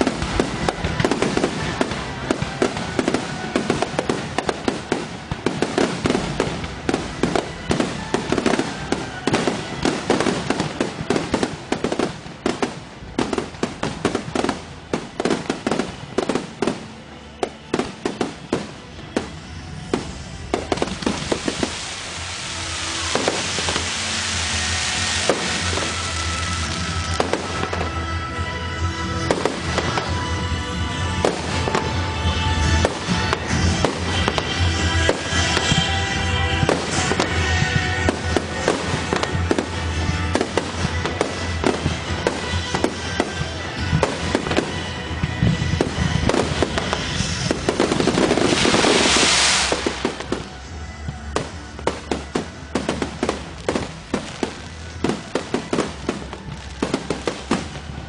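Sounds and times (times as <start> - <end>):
fireworks bangs and crackles: 0.0 - 58.0
steady rushing noise: 0.0 - 58.0.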